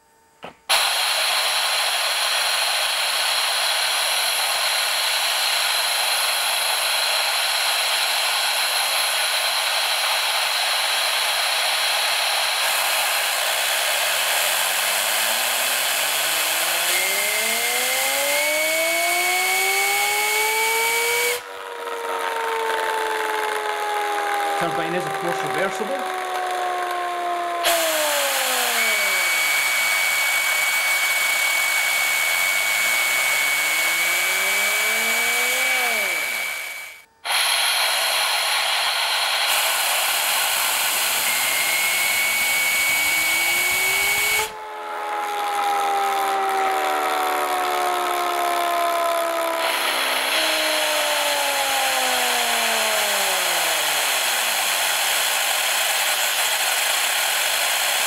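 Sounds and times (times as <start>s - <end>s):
turbine rotor whine: 0.0s - 58.0s.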